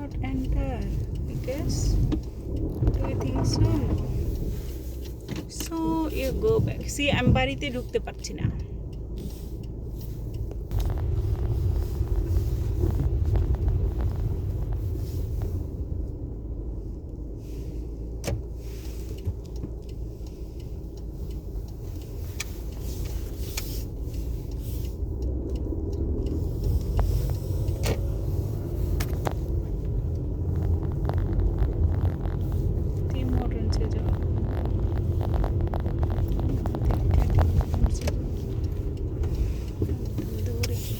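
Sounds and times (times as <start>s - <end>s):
engine and road rumble: 0.0s - 40.9s.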